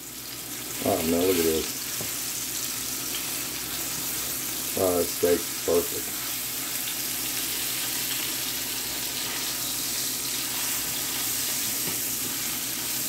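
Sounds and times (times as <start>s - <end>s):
steaks sizzling in oil: 0.0s - 13.0s.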